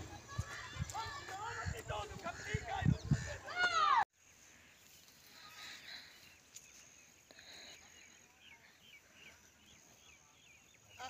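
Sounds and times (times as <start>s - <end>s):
distant small birds chirping: 0.0s - 11.0s.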